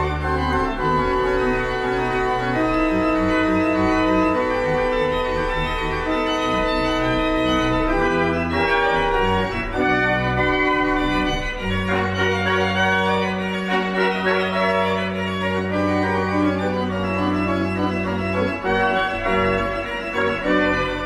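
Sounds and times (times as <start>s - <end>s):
organ playing chords: 0.0s - 21.0s.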